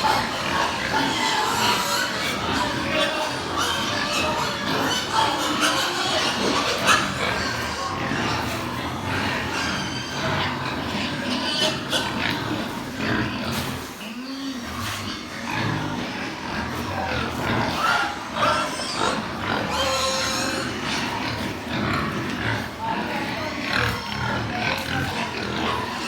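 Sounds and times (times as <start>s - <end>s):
pigs grunting and squealing: 0.0s - 26.0s.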